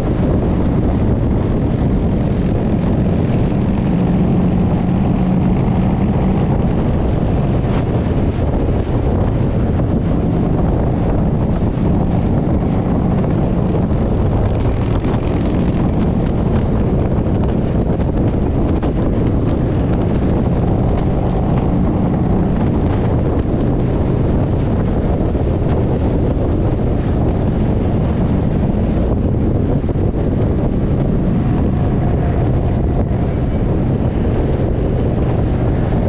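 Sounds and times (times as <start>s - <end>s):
motorcycle engine drone: 0.0s - 36.0s
wind rushing over microphone: 0.0s - 36.0s.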